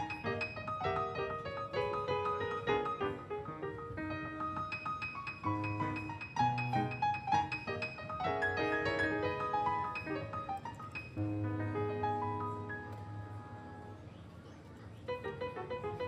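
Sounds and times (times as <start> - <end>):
piano music: 0.0 - 14.4, 15.0 - 16.0.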